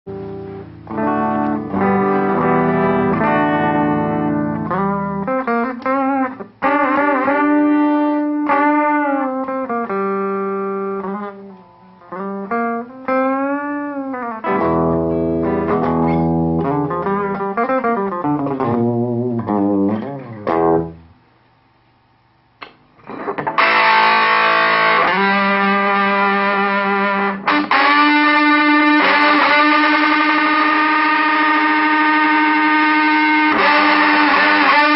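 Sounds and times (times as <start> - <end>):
fuzz electric guitar: 0.1 - 21.1, 23.0 - 34.9.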